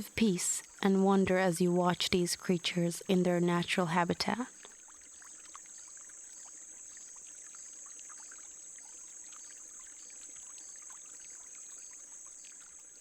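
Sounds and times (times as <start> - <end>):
stream trickling and bubbling: 0.0 - 13.0.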